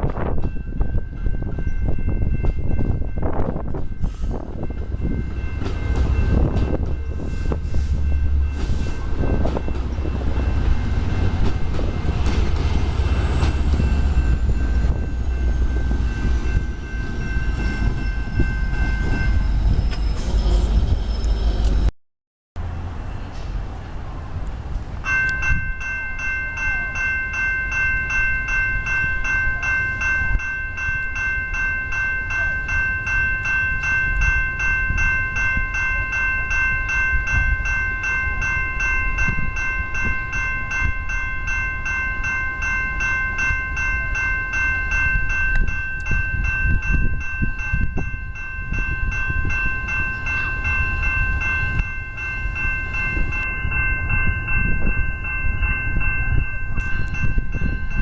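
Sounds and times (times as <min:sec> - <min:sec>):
train rumbling past: 0:00.0 - 0:21.9, 0:22.6 - 0:58.0
level-crossing warning bell ringing: 0:00.1 - 0:21.9, 0:25.0 - 0:58.0.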